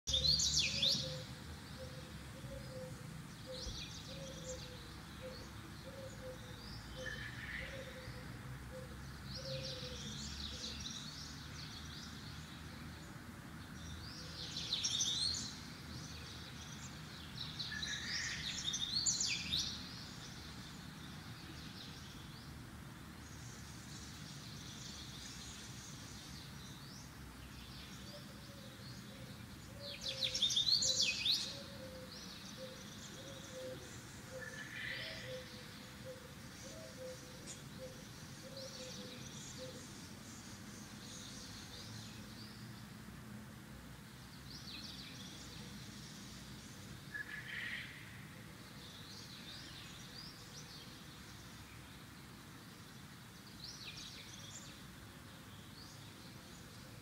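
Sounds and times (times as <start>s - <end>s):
faint background hiss: 0.1s - 57.0s.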